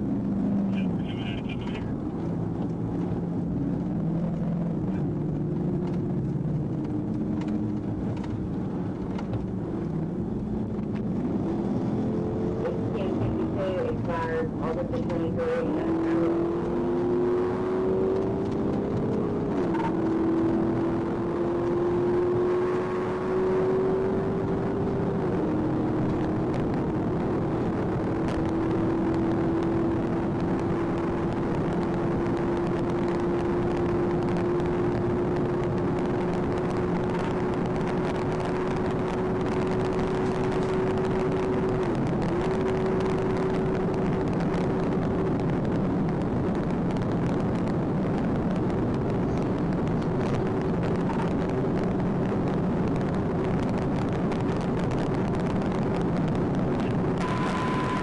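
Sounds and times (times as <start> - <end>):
car engine at high speed: 0.0 - 58.0
road and wind noise: 0.0 - 58.0.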